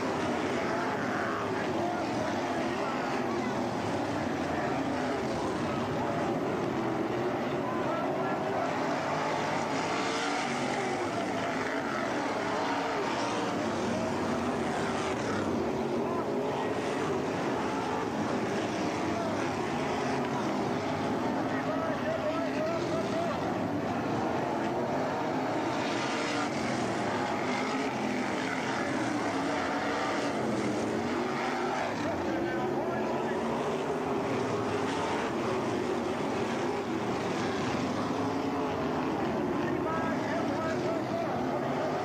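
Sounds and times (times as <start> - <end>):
race car engines running hard: 0.0 - 42.0.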